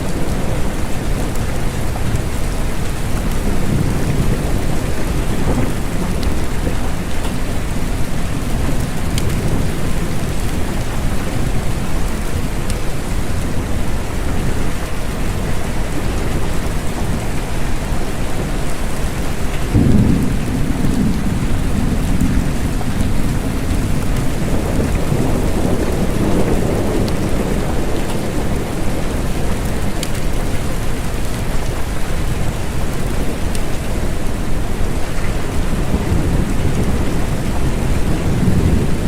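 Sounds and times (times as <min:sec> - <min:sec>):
rolling thunder: 0:00.0 - 0:34.1, 0:34.8 - 0:39.0
steady rain: 0:00.0 - 0:39.0.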